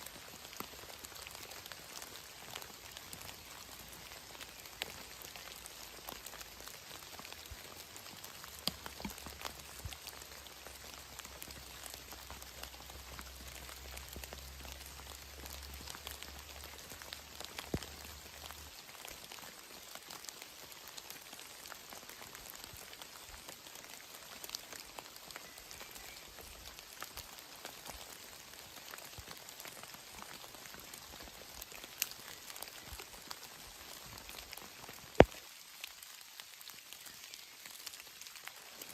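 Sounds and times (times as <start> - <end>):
rain pattering: 0.0 - 38.9
raindrops ticking on surfaces: 0.0 - 38.9.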